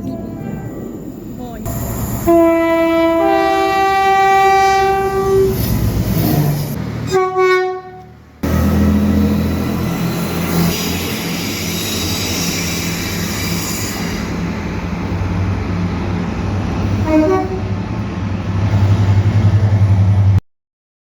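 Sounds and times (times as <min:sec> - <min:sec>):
train engine droning: 0:00.0 - 0:20.4.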